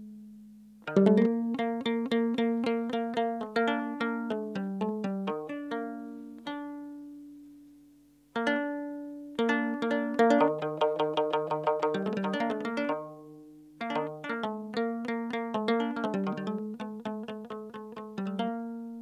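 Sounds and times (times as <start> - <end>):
plucked lyre: 0.0 - 19.0.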